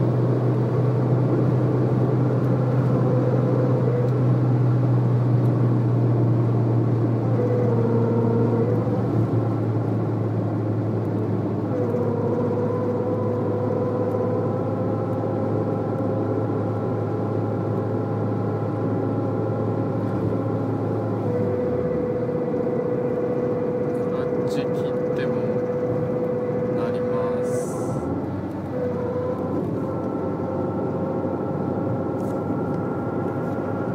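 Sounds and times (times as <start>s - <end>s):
car driving low drone: 0.0s - 33.9s
high humming whine: 0.0s - 33.9s.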